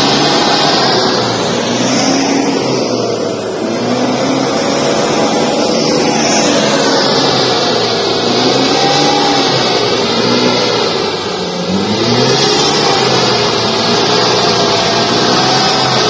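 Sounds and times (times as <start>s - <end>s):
diesel engine running hard: 0.0s - 16.0s.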